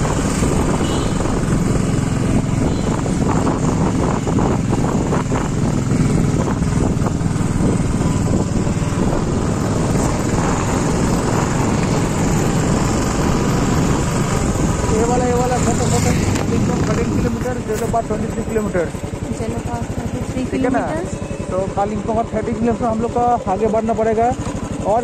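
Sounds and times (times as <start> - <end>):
wind buffeting microphone: 0.0 - 20.3
motorcycle engine running: 0.0 - 25.0.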